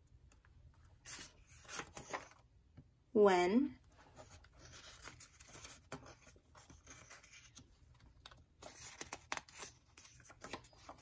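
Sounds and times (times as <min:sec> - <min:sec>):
paper flash cards rustling: 0:00.3 - 0:02.5, 0:04.0 - 0:11.0.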